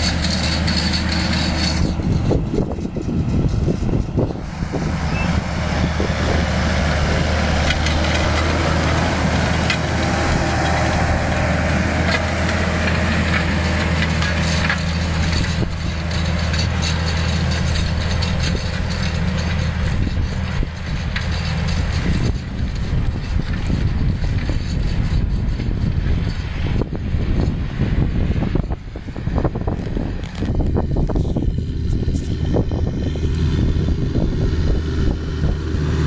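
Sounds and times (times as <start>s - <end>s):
tractor diesel engine droning: 0.0s - 36.0s.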